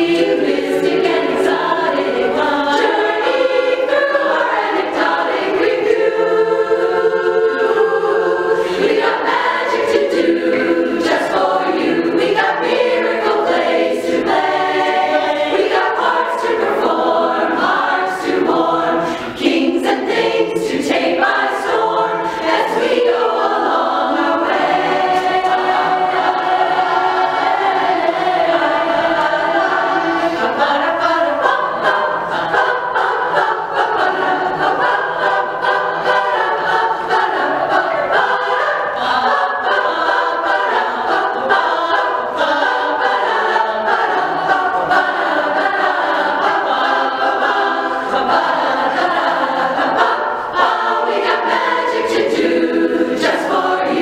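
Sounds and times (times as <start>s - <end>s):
women's chorus singing a cappella: 0.0s - 54.0s.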